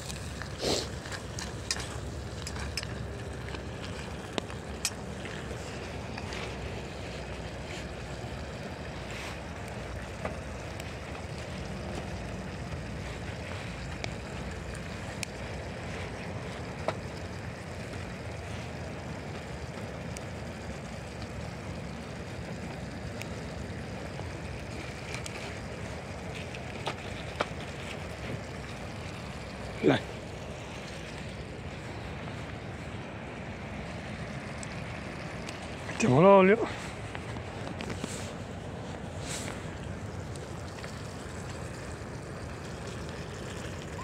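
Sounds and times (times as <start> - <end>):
twigs crackling in fire: 0.0 - 33.6, 34.3 - 44.0.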